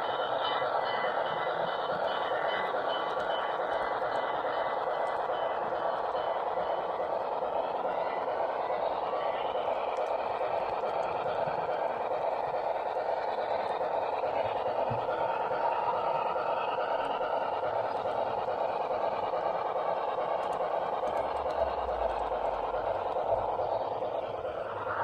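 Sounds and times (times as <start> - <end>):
model train running: 0.0 - 25.0.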